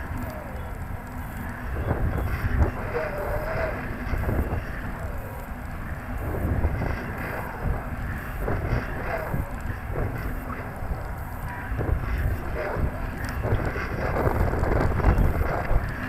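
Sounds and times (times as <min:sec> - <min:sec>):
faint wavering tone: 0:00.0 - 0:16.0
wind buffeting microphone: 0:00.0 - 0:16.0.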